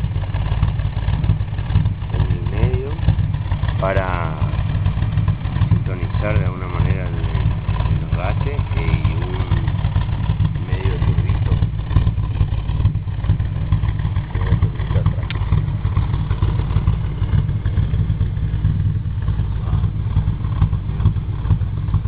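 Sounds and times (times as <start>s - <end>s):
engine idling with pulsing exhaust: 0.0s - 22.0s.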